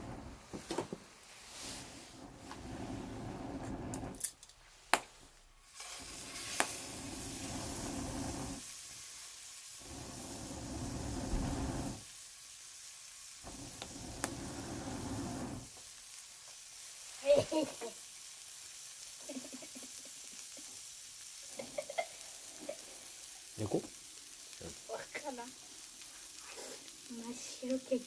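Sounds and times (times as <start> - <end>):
bonfire sizzling hiss: 0.0 - 28.0.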